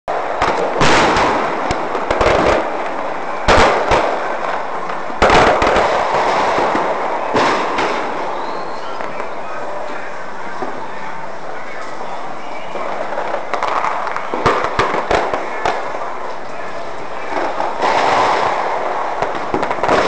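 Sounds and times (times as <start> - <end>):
din of fireworks bursts: 0.1 - 20.0
fireworks bangs: 0.1 - 20.0.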